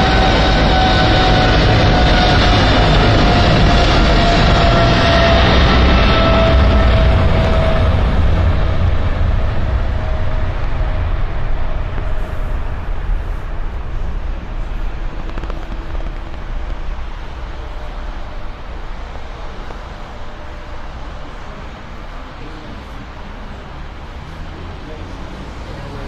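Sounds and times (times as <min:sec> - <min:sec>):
jet engines rumbling: 0:00.0 - 0:26.0
road traffic: 0:00.0 - 0:26.0.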